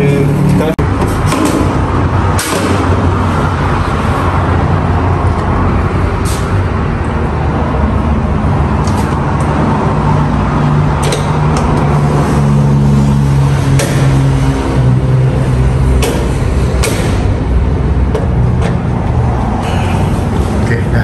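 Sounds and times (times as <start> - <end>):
machinery droning hum: 0.0 - 21.0.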